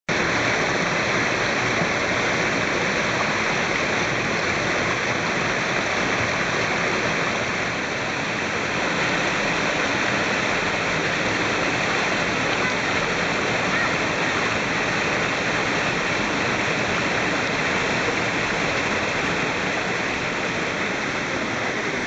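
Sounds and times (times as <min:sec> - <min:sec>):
stream splashing over boulders: 0:00.1 - 0:22.0.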